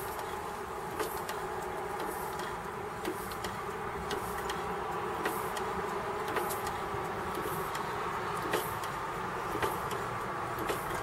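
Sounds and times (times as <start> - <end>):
light mechanical clicks: 0.0 - 11.0.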